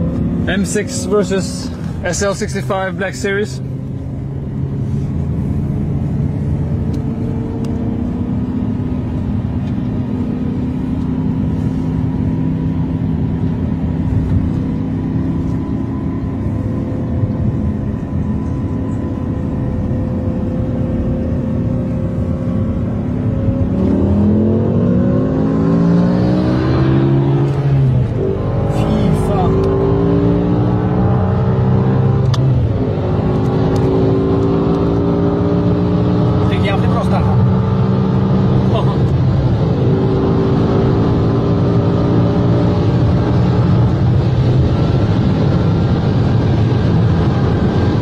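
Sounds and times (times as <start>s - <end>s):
sports car engines: 0.0s - 48.0s.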